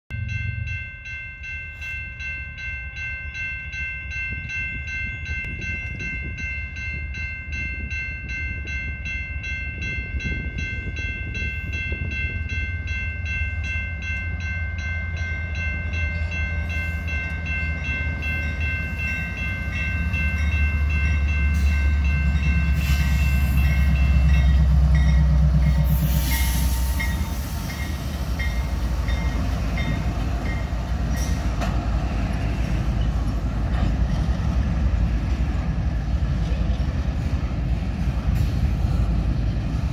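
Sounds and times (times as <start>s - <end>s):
railroad crossing bell ringing: 0.1s - 39.9s
diesel locomotive rumble: 2.2s - 39.9s.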